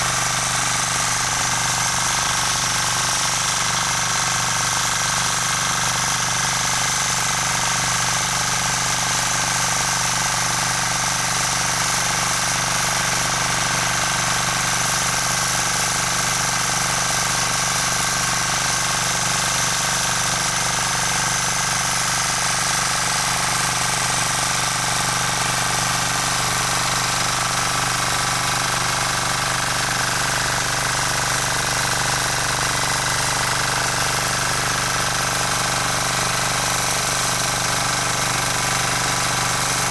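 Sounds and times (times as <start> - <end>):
rotary tiller engine running: 0.0 - 39.9.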